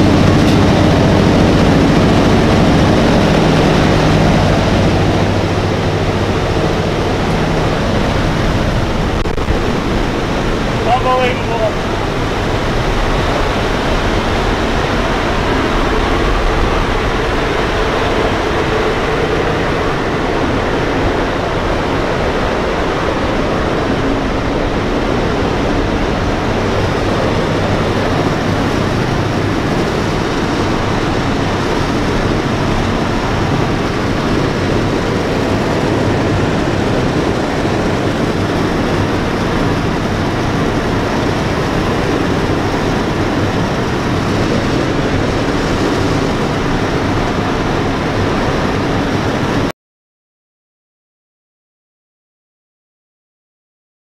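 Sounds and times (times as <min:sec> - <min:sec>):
air rushing past airframe: 0:00.0 - 0:49.6
propeller aircraft engines droning: 0:00.0 - 0:49.7.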